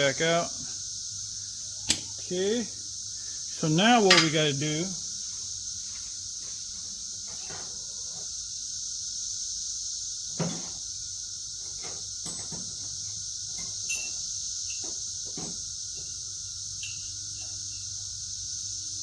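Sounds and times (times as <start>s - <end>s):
high-pitched insect chirring: 0.0s - 19.0s.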